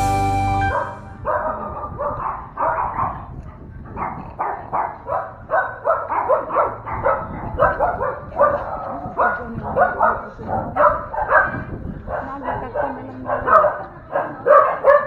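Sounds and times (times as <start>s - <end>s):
dog barking: 0.7s - 15.0s.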